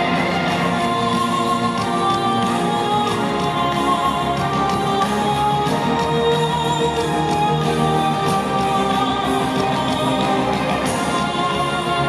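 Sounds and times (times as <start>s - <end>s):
music with long held notes: 0.0s - 12.0s.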